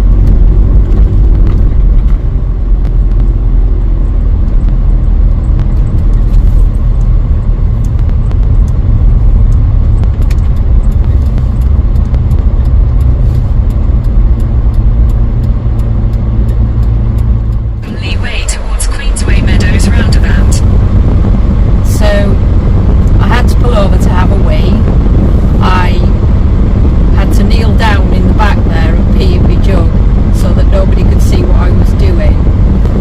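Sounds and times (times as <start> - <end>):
campervan engine rumbling: 0.0 - 33.0.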